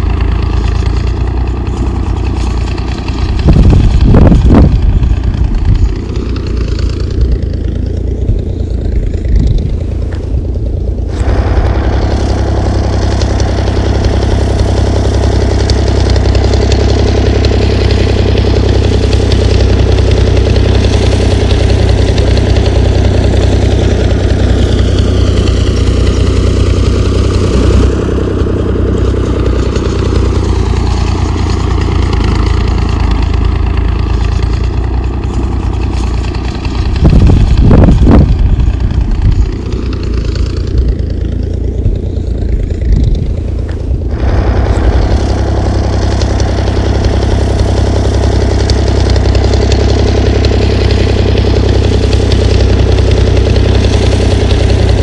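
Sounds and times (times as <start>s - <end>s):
motor engine running: 0.0s - 55.0s.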